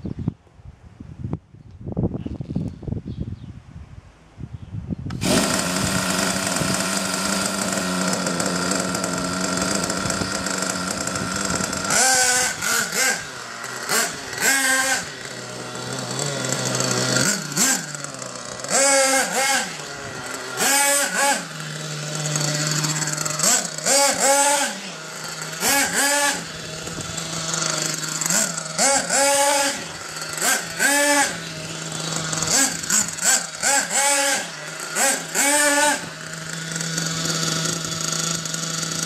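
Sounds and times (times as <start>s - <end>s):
model nitro engine revving: 5.1s - 39.0s.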